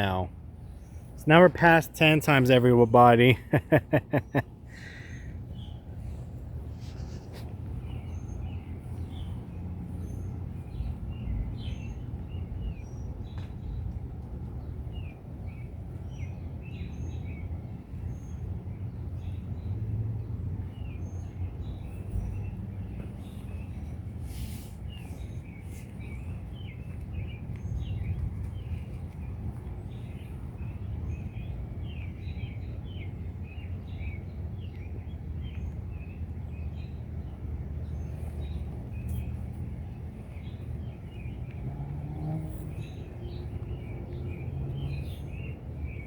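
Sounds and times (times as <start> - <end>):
small birds chirping: 0.0 - 46.0
low outdoor rumble: 2.5 - 46.0.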